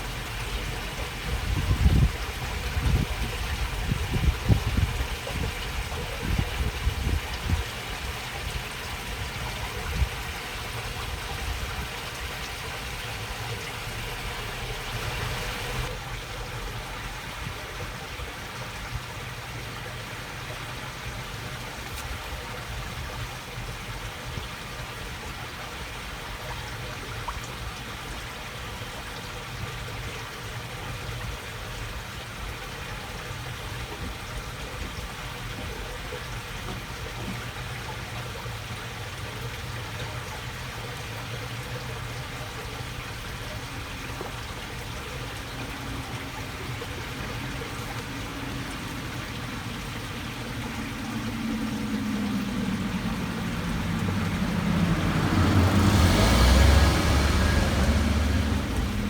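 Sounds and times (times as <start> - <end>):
water babbling along a channel: 0.0 - 59.0.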